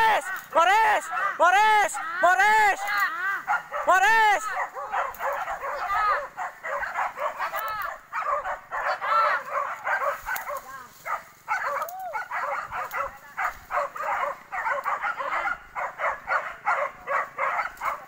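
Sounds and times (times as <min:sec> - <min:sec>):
dogs barking and yelping: 0:00.0 - 0:18.0.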